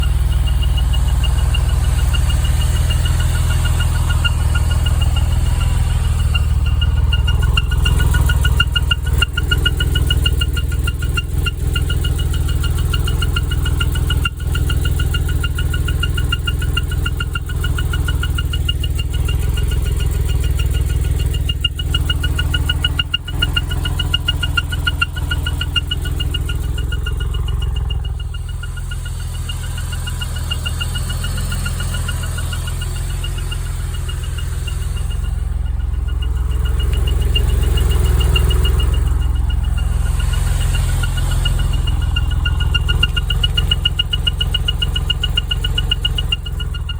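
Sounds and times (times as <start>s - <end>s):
car engine idling: 0.0s - 46.9s
high-pitched whistling squeak: 0.0s - 46.9s.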